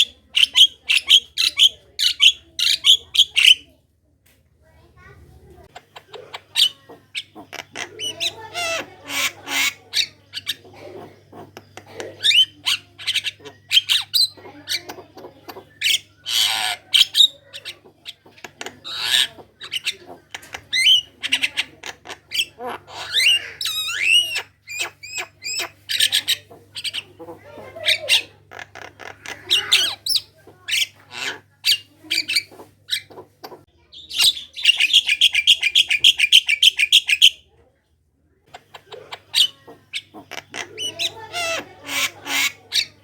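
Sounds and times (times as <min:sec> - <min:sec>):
myna chattering: 0:00.0 - 0:03.8, 0:04.6 - 0:37.6, 0:38.4 - 0:43.0.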